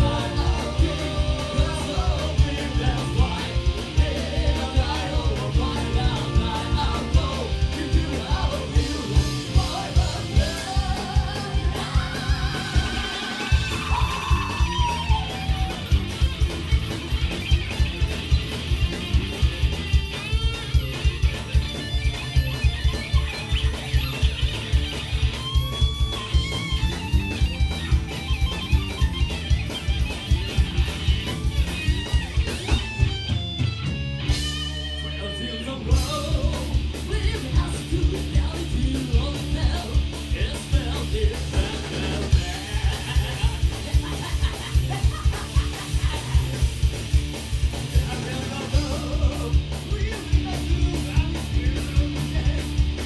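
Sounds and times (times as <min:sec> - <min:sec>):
distorted electric guitars: 0:00.0 - 0:53.0.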